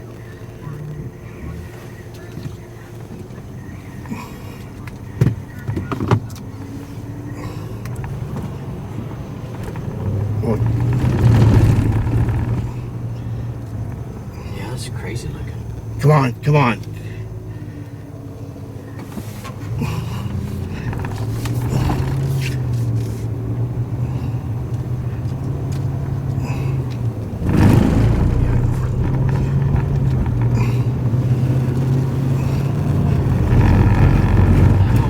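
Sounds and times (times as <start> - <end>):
car engine hum: 0.0 - 35.0
road noise: 0.0 - 35.0.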